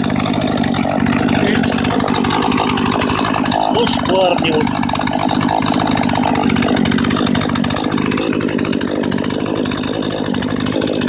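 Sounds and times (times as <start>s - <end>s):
chainsaw engine running: 0.0s - 11.0s.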